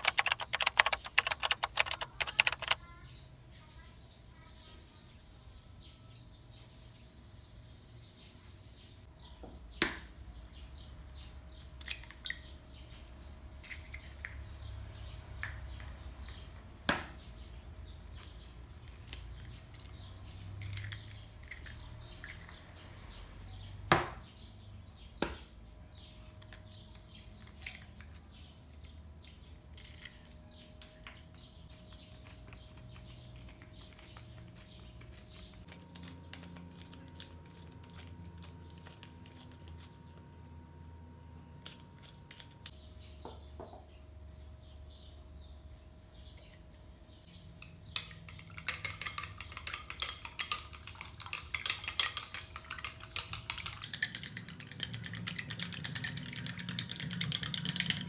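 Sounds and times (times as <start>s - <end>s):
faint bird chirping: 0.0s - 58.0s.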